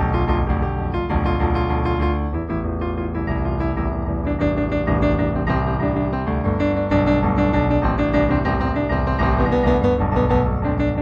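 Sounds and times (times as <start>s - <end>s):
solo piano music: 0.0s - 11.0s.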